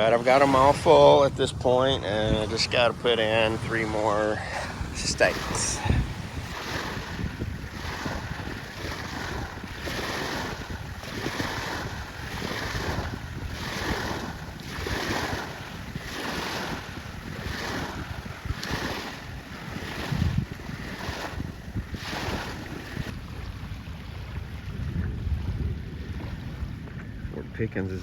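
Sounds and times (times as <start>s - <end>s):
small waves washing onto sand: 0.0s - 28.0s
wind buffeting microphone: 0.0s - 28.0s.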